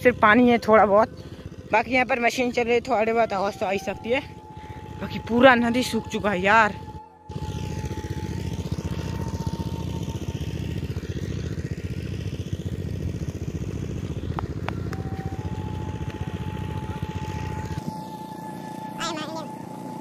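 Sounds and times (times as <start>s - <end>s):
engine-driven machine running: 0.0s - 20.0s
thin steady whine: 0.0s - 20.0s.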